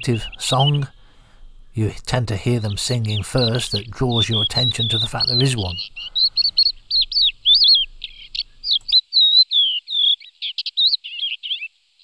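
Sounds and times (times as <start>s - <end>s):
lark singing: 0.0s - 11.7s.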